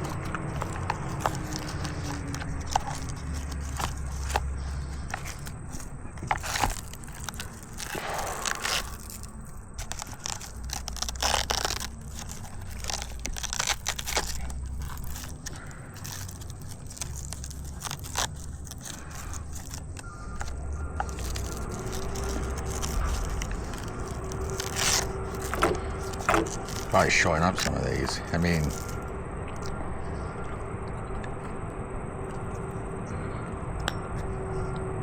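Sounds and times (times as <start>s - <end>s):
velcro straps scraping and rustling: 0.0s - 29.1s
low steady rumble: 0.0s - 35.0s.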